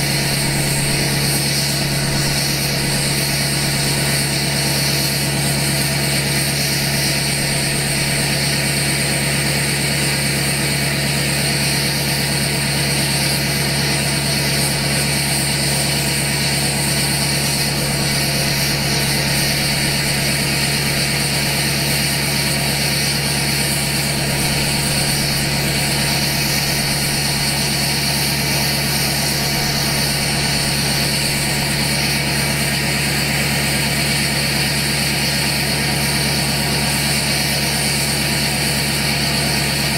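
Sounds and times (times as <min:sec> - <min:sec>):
diesel engine idling: 0:00.0 - 0:10.8, 0:12.4 - 0:39.9.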